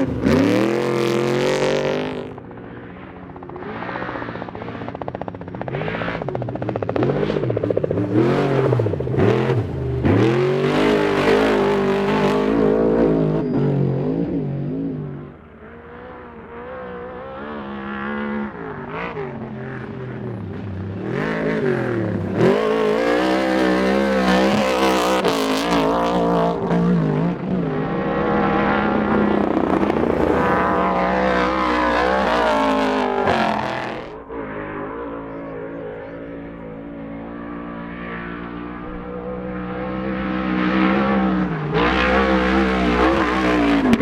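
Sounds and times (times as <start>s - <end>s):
truck engines revving hard: 0.0s - 44.0s.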